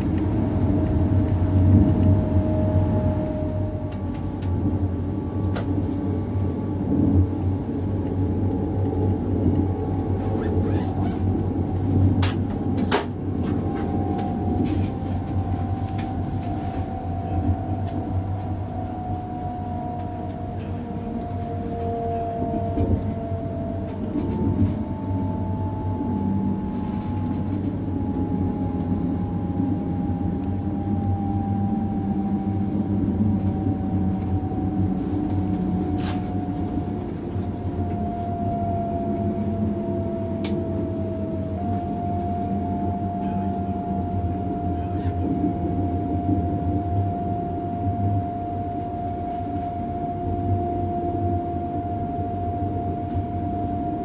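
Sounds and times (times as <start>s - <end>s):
train wheels rumbling: 0.0s - 50.0s
traction motor whine: 0.0s - 54.0s.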